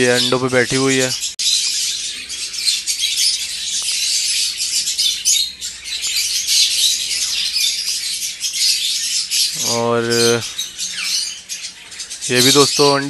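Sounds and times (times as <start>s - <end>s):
budgerigars chirping and squawking: 0.0s - 13.0s.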